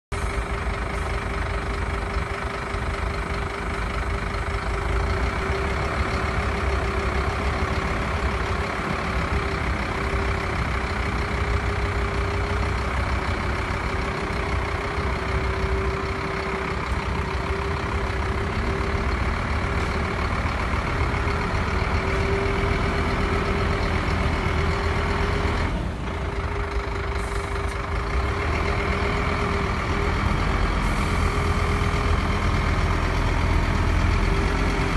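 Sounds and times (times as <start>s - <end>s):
constant engine whine: 0.1s - 34.9s
diesel truck engine idling: 0.1s - 34.9s.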